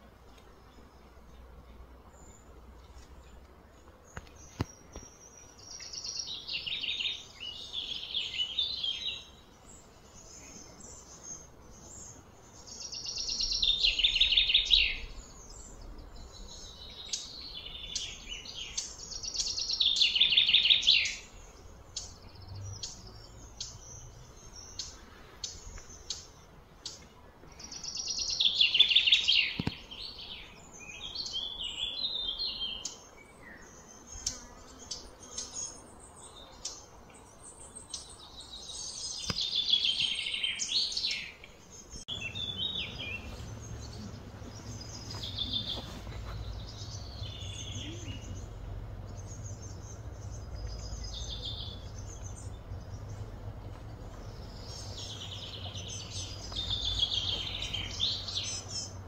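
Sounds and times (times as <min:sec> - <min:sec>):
bird chirps: 0:02.2 - 0:59.0.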